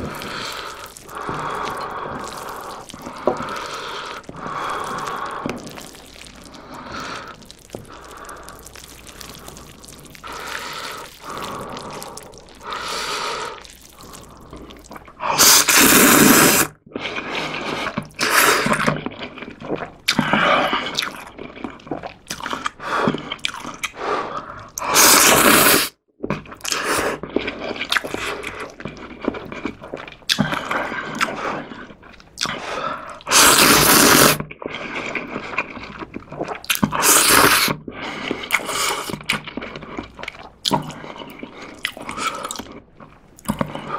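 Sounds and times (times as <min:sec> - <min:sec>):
noodles being slurped: 0:00.0 - 0:43.9
wet chewing: 0:00.0 - 0:43.9.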